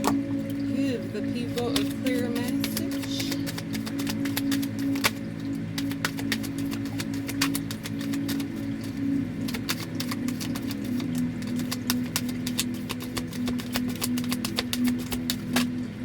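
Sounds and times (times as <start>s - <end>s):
low background music drone: 0.0s - 16.0s
cards being shuffled: 1.5s - 15.8s.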